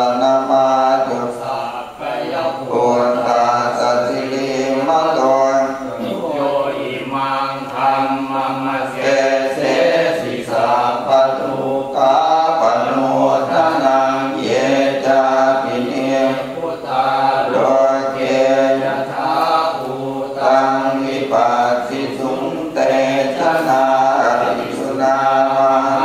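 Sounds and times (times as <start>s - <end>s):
voices chanting prayers together: 0.0s - 26.0s.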